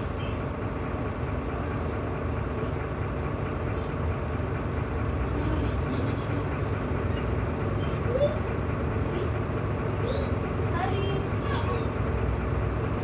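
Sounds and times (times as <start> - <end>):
bus running inside cabin: 0.0 - 13.0.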